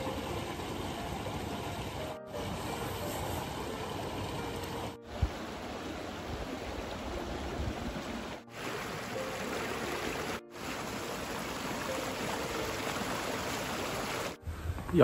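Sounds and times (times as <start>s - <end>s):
stream flowing over boulders: 0.0s - 14.4s.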